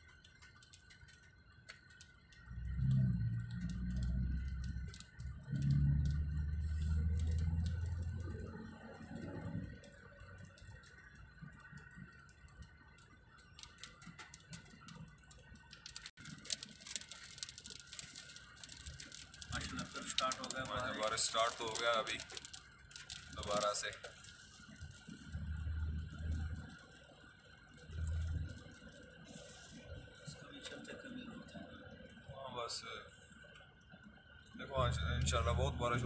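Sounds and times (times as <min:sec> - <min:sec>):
rain tapping on car: 0:00.0 - 0:36.0
low engine rumble: 0:02.3 - 0:36.0.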